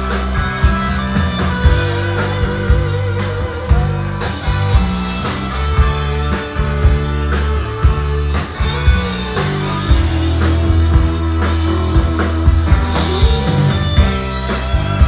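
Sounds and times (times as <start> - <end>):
electric bass notes: 0.0 - 15.0
electric guitars: 0.0 - 15.0.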